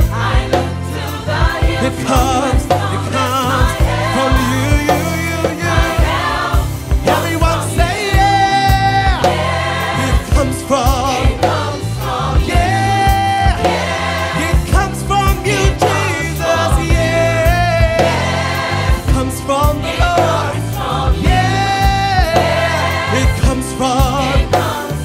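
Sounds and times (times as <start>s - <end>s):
band with bass and beat: 0.0s - 25.0s
choir singing: 0.0s - 25.0s.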